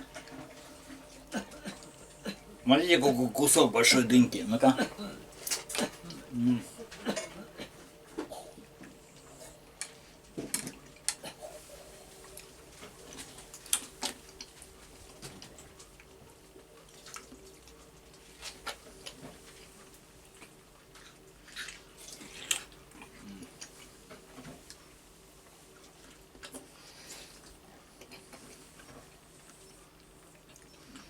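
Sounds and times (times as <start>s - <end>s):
faint steady hum: 0.0s - 31.0s
wet chewing of melon: 0.0s - 31.0s.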